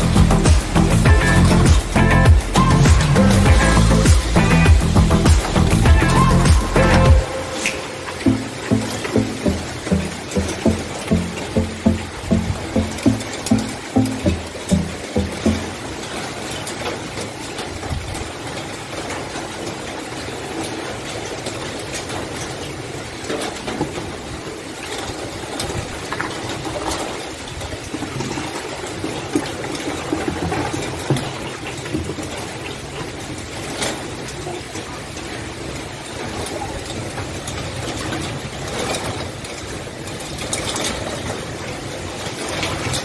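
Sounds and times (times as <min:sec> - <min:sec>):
heavy rain falling: 0:00.0 - 0:43.0.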